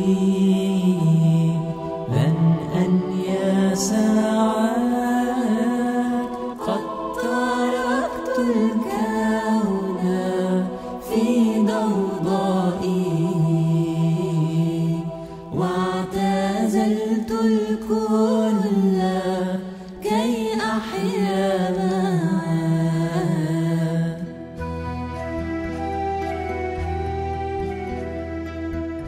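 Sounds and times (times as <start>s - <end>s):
chant-like singing in long notes: 0.0s - 24.4s.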